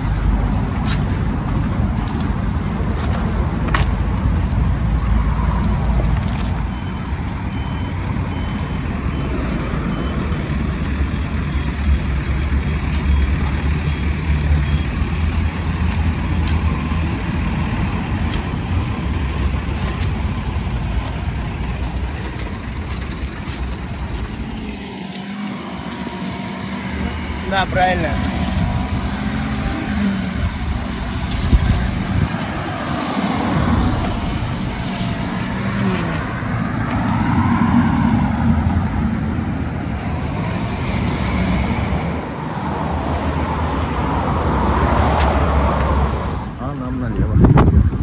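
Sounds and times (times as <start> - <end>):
road traffic going by: 0.0 - 48.0.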